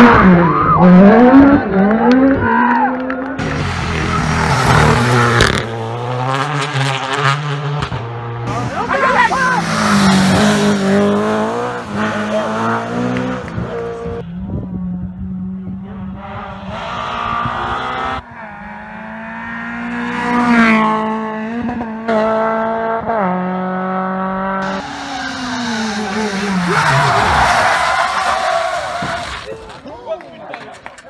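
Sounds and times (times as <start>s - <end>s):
rally car engines revving: 0.0s - 29.9s.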